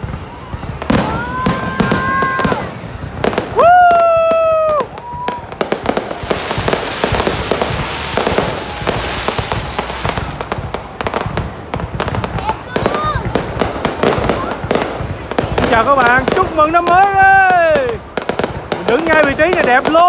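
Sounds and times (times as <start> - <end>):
fireworks bangs and crackle: 0.0 - 20.0.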